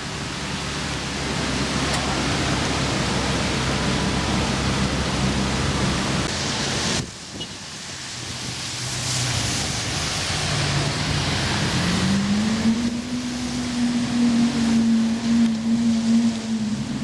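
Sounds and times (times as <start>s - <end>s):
rain on wet road: 0.0s - 17.0s.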